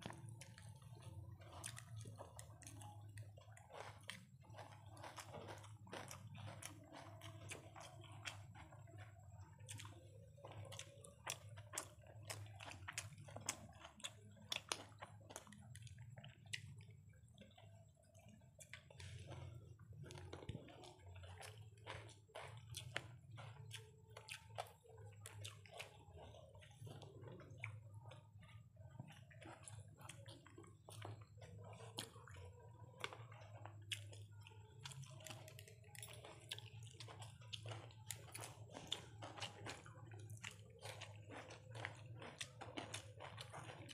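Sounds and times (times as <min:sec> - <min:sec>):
low steady hum: 0:00.0 - 0:43.9
wet chewing: 0:00.0 - 0:43.9.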